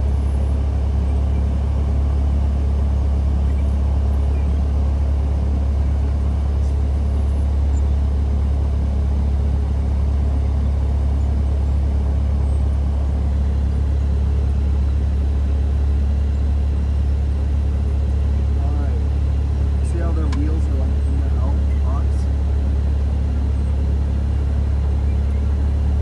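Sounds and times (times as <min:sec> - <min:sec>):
propeller plane engine drone: 0:00.0 - 0:26.0.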